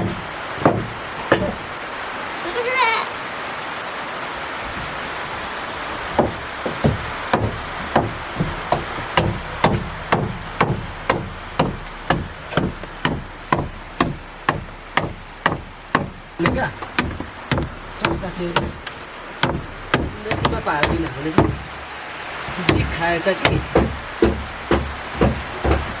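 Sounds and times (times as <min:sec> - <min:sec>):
steady knocking strikes: 0:00.0 - 0:01.8, 0:06.1 - 0:21.9, 0:22.5 - 0:26.0.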